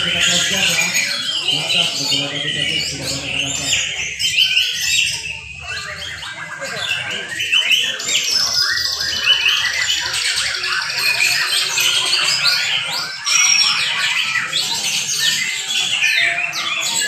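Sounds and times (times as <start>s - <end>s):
birds singing trills and whistles: 0.0s - 17.0s.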